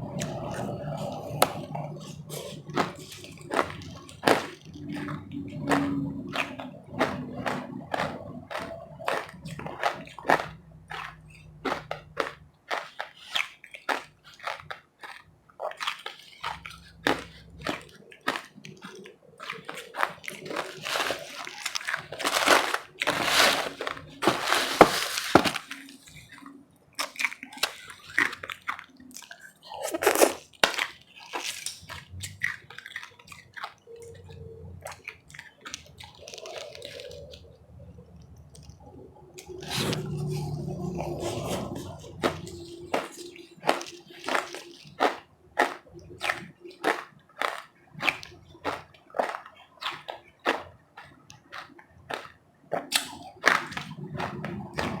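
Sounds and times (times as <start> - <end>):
crunching of ice being chewed: 0.0 - 55.0.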